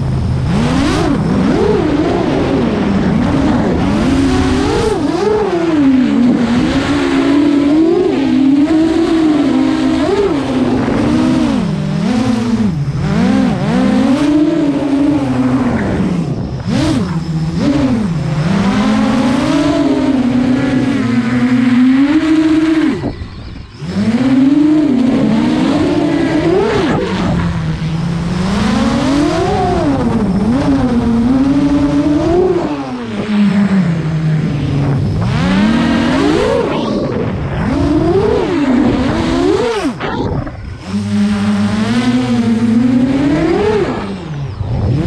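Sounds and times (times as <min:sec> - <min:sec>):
quadcopter motors whining: 0:00.0 - 0:45.0.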